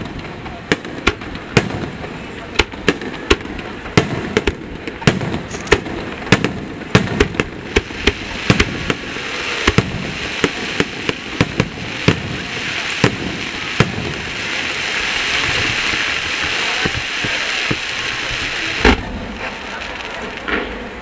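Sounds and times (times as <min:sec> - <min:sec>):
firework shells bursting: 0:00.0 - 0:21.0
hiss: 0:00.0 - 0:21.0.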